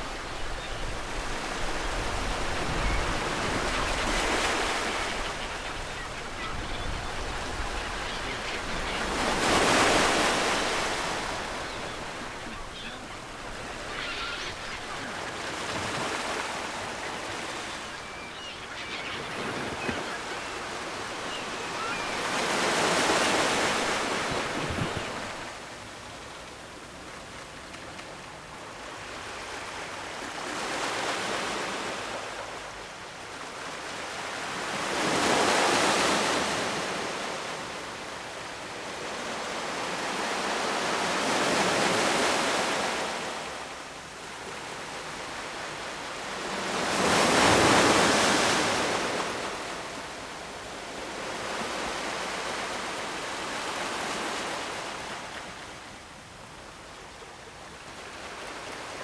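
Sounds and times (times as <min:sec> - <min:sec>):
ocean waves breaking on shore: 0:00.0 - 0:25.9, 0:28.7 - 0:56.1.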